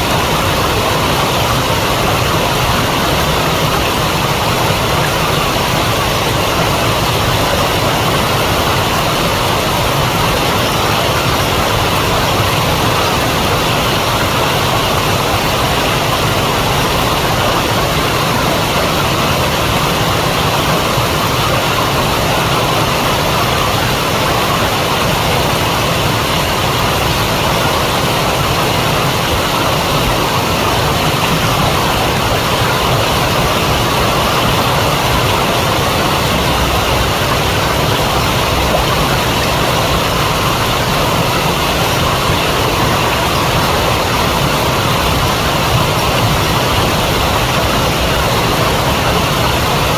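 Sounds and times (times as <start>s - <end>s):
flowing river rushing: 0.0s - 49.9s.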